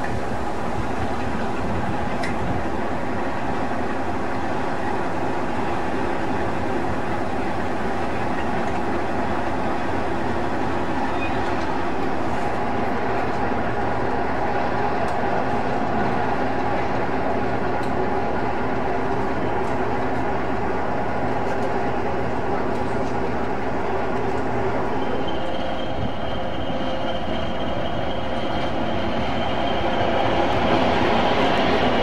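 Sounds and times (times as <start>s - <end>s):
diesel locomotive engines idling: 0.0s - 32.0s.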